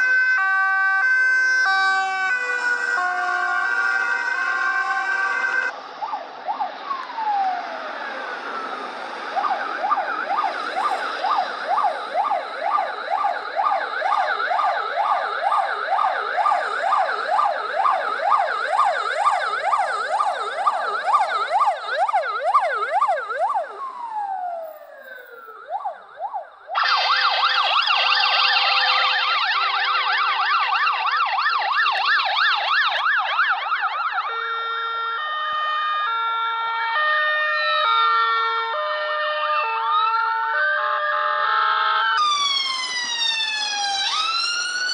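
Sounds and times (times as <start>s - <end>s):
ambulance siren fast yelp: 0.0s - 44.9s
shrill fast yelp siren: 0.0s - 44.9s
two-tone ambulance siren: 0.0s - 44.9s.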